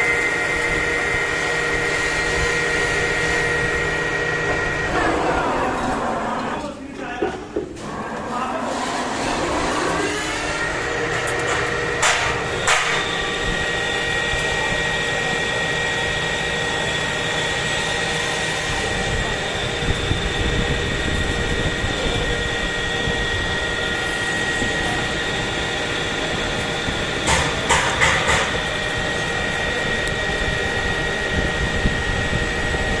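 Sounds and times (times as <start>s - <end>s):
lathe whine and hum: 0.0s - 6.8s, 7.6s - 33.0s.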